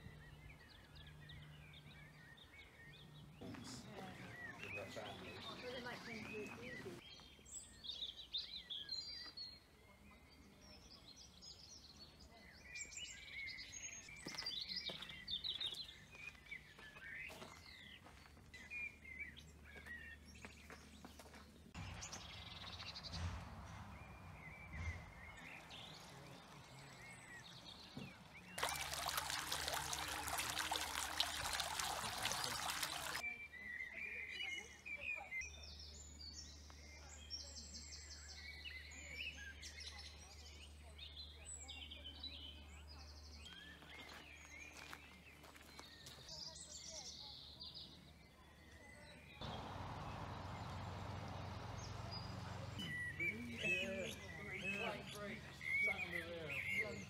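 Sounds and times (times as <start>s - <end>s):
birds singing and calling: 0.0s - 57.0s.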